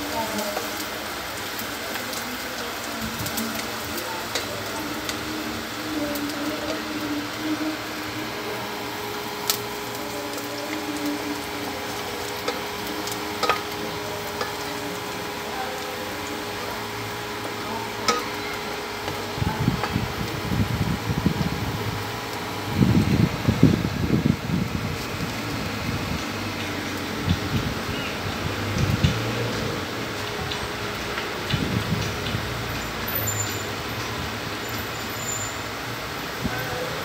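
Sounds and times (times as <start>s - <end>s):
garlic and onion sizzling in oil: 0.0s - 37.0s.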